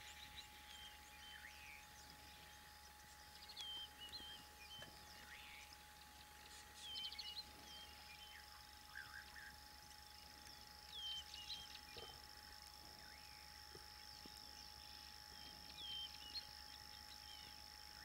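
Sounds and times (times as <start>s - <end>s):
bird singing whistled notes: 0.0s - 12.2s, 13.0s - 18.0s.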